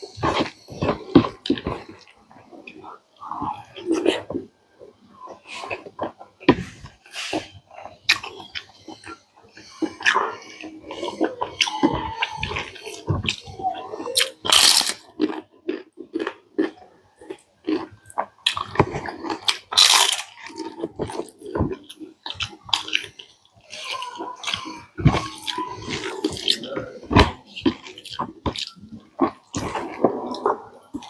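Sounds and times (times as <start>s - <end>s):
person biting and chewing: 5.6s - 9.2s, 9.8s - 31.0s.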